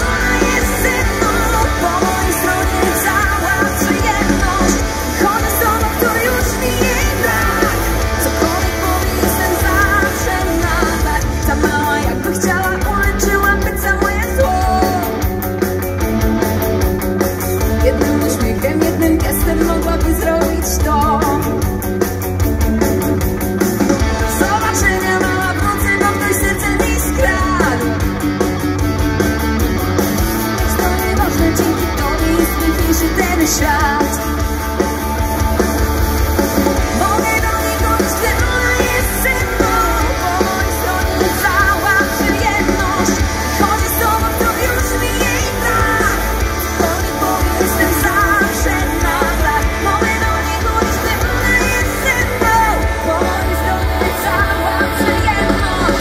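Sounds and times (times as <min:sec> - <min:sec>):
drums: 0:00.0 - 0:56.0
electric guitar: 0:00.0 - 0:56.0
live rock band playing: 0:00.0 - 0:56.0.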